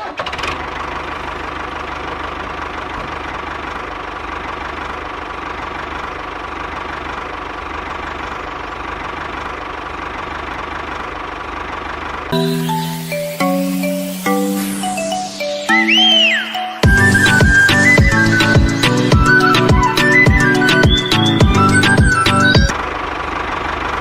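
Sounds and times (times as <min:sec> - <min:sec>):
tractor engine chugging: 0:00.0 - 0:14.3, 0:15.4 - 0:24.0.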